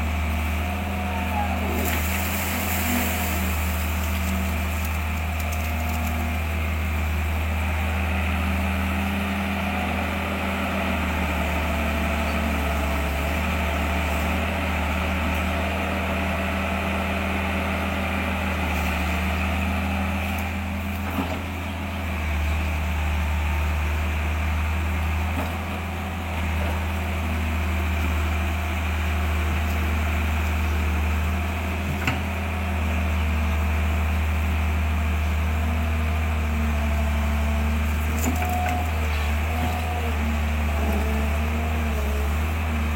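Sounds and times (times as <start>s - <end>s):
engine humming: 0.0s - 42.9s.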